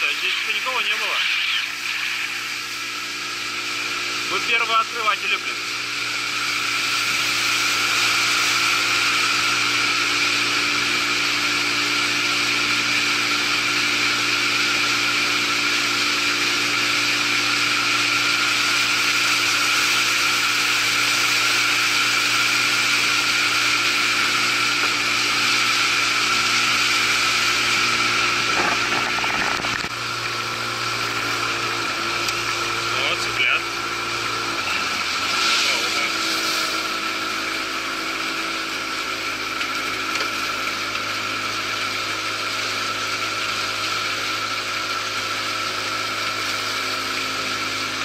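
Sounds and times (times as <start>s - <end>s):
boat motor droning with high whine: 0.0s - 48.0s.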